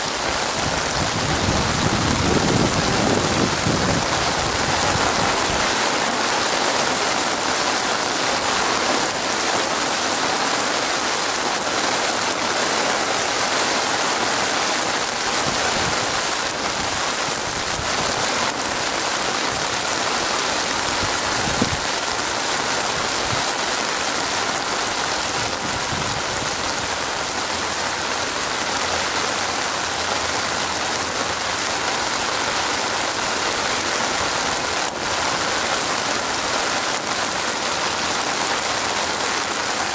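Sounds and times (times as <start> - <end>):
heavy rain on water: 0.0 - 39.9.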